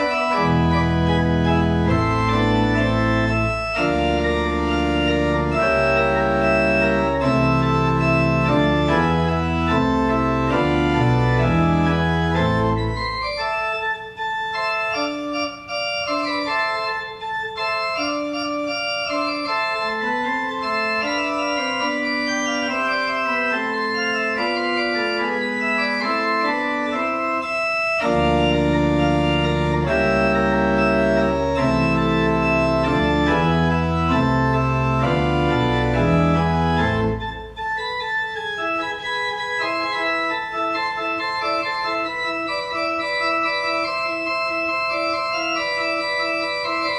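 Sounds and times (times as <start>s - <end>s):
organ music: 0.0s - 46.9s.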